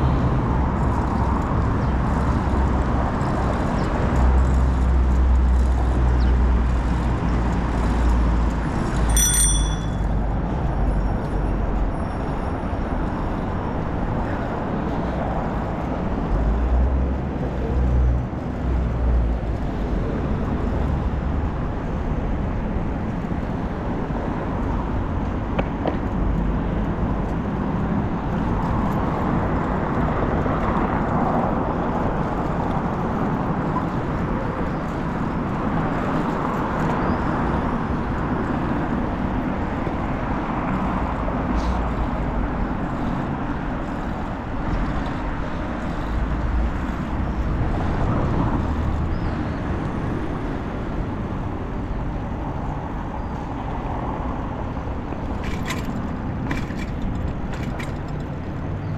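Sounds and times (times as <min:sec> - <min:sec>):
passing cars: 0:00.0 - 0:58.9.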